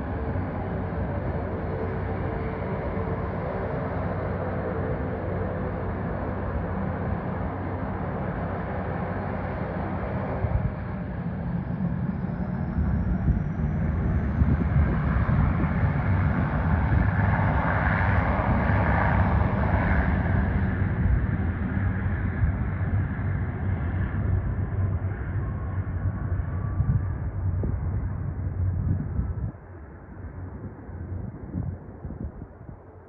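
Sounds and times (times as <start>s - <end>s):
airliner engines roaring: 0.0s - 33.0s
faint high whine: 0.0s - 33.0s.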